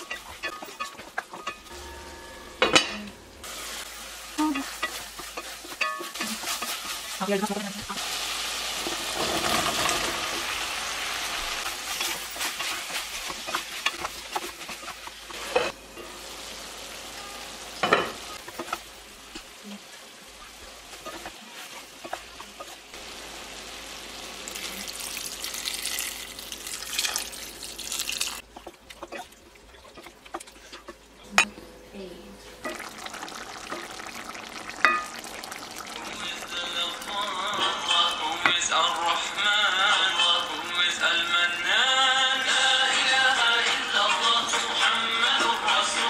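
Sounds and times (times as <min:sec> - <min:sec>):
curry sizzling in a pot: 0:00.0 - 0:31.2, 0:32.4 - 0:46.0.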